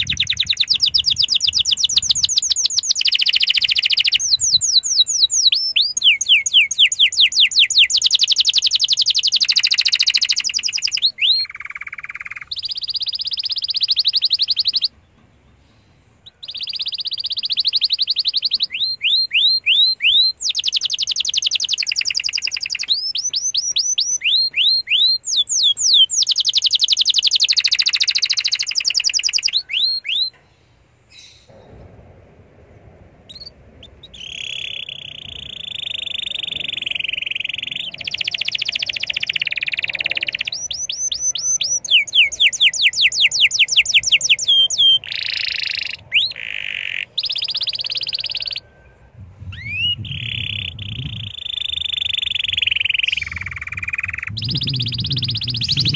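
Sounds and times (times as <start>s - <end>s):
canary singing: 0.0s - 15.0s, 16.2s - 30.4s, 33.3s - 55.9s.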